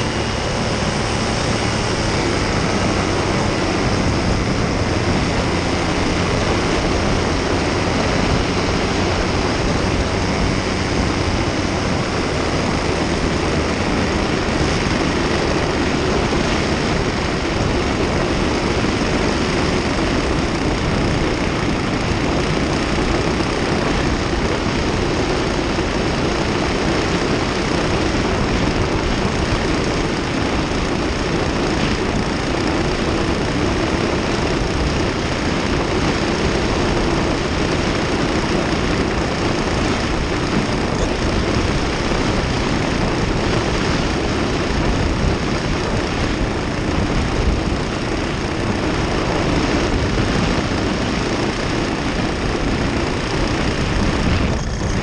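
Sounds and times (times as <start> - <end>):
paramotor engine drone: 0.0 - 55.0
rushing air: 0.0 - 55.0.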